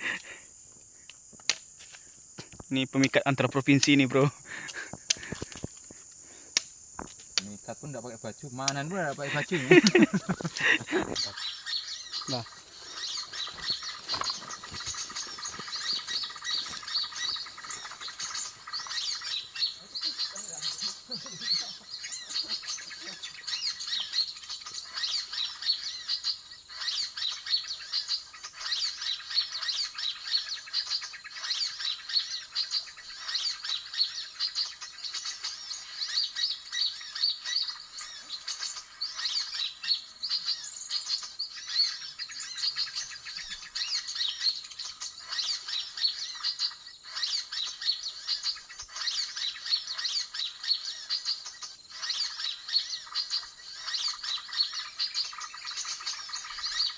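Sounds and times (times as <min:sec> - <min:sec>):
small birds chattering and chirping: 0:00.0 - 0:56.9.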